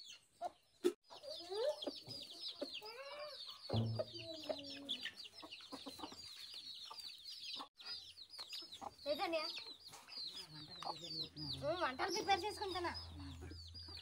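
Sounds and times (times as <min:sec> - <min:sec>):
chickens cheeping and clucking: 0:00.0 - 0:14.0.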